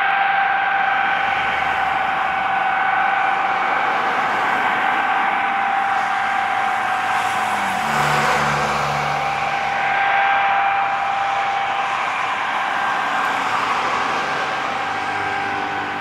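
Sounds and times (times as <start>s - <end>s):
low hum: 0.0s - 15.8s
jet engines whining: 0.0s - 16.0s.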